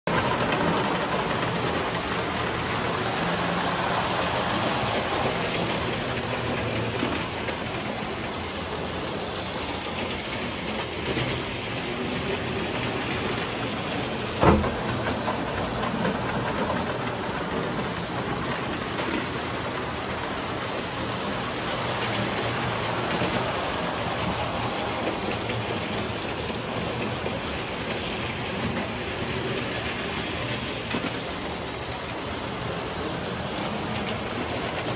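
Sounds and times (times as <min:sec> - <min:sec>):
toy electric train running: 0:00.1 - 0:34.9.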